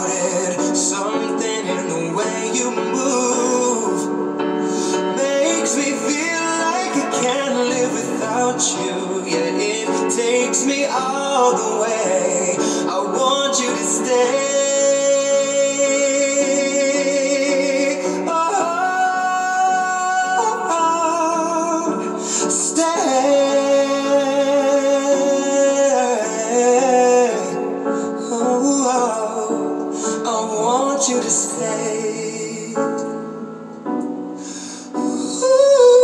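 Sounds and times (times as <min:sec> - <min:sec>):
man singing with vibrato: 0:00.0 - 0:33.4, 0:34.3 - 0:36.0.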